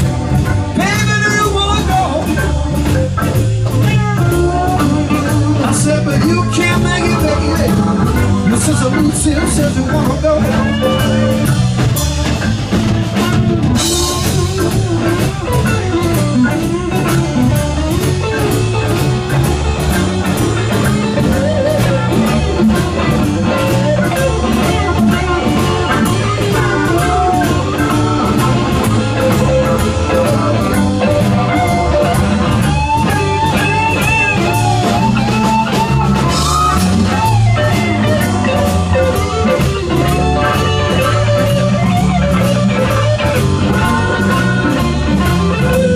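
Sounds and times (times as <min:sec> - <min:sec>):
blues-rock band playing: 0:00.0 - 0:45.9
electric guitar lead: 0:00.0 - 0:45.9.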